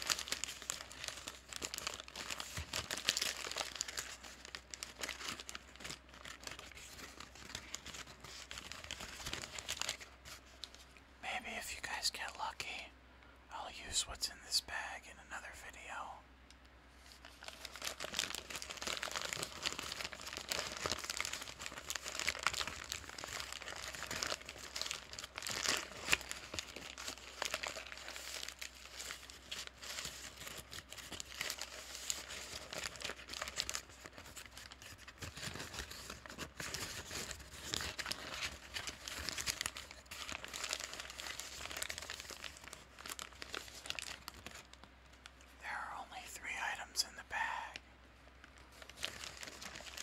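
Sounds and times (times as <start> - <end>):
paper bag crumpling: 0.0 - 10.8, 17.0 - 44.8, 48.4 - 50.0.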